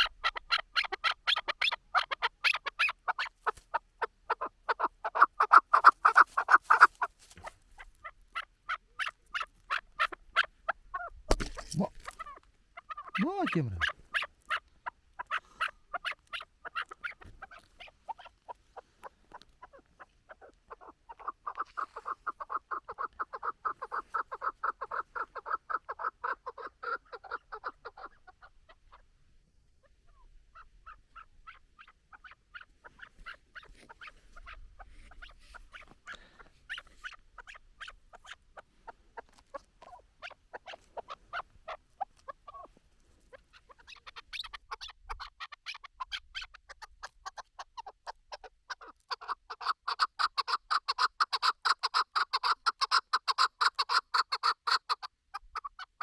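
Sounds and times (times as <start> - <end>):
partridge clucking calls: 0.0 - 29.1, 29.8 - 56.0.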